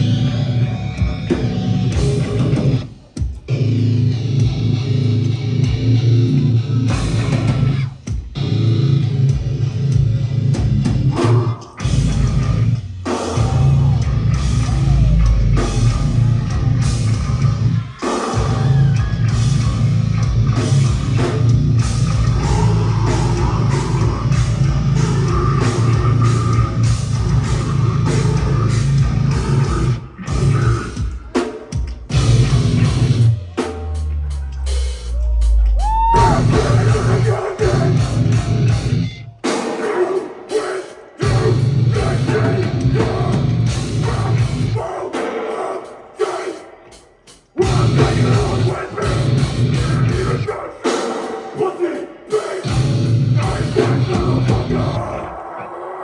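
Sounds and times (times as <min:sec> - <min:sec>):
heavy rock music: 0:00.0 - 0:55.4.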